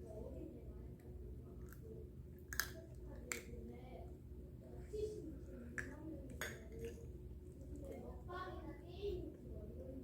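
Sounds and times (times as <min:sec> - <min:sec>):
faint low murmur: 0:00.0 - 0:10.0.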